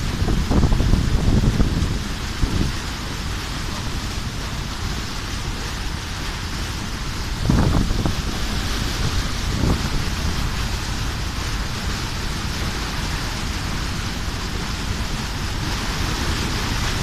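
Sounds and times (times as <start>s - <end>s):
low engine rumble: 0.0s - 17.0s
water spray churning past hull: 0.0s - 17.0s
wind on microphone: 0.0s - 17.0s.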